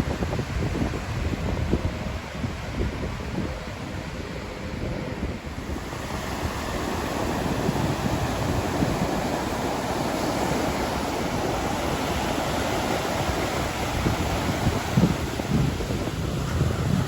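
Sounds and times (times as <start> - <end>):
waves breaking: 0.0 - 17.0
wind buffeting microphone: 0.0 - 17.0.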